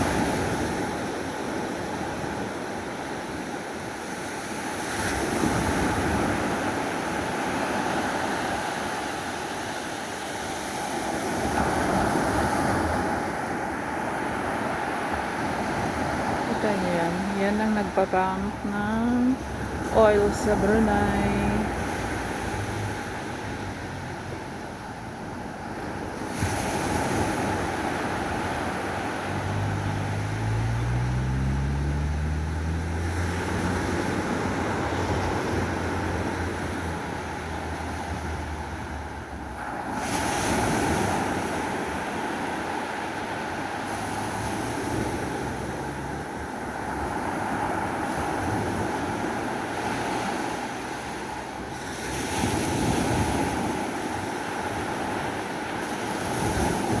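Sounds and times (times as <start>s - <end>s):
ocean surf on beach: 0.0s - 57.0s
low engine hum: 10.8s - 57.0s.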